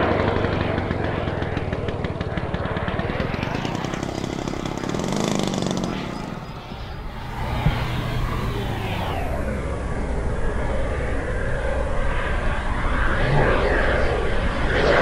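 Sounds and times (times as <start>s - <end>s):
model jet engine flying overhead: 0.0s - 15.0s.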